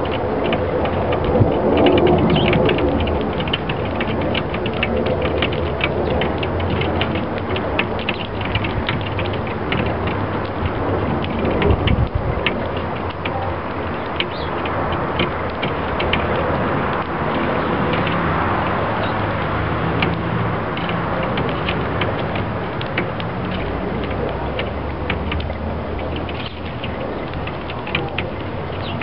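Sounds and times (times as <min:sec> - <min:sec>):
birds pecking seed on glass: 0:00.0 - 0:29.0
steady background noise: 0:00.0 - 0:29.0.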